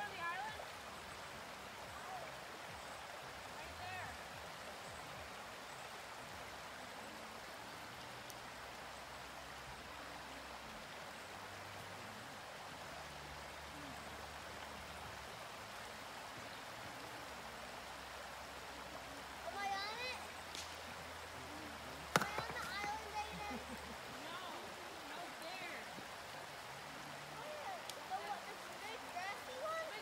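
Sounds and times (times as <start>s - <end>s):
creek running over stones: 0.0s - 30.0s.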